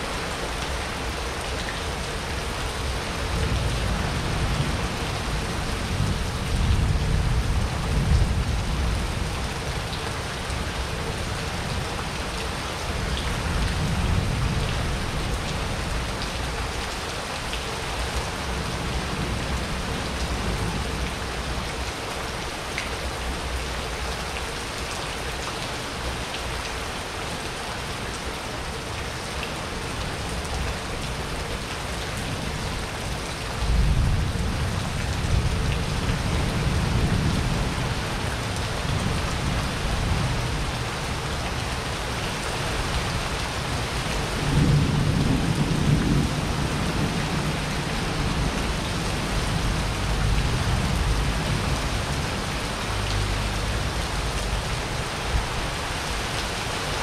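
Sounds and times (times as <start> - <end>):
heavy rain on paving: 0.0 - 57.0.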